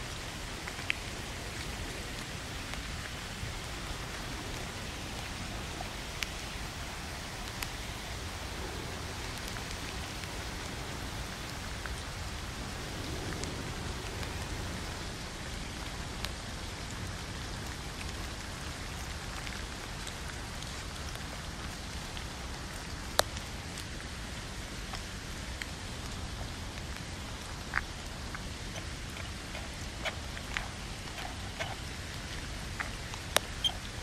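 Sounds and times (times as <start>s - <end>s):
rain on a tent: 0.0s - 34.0s.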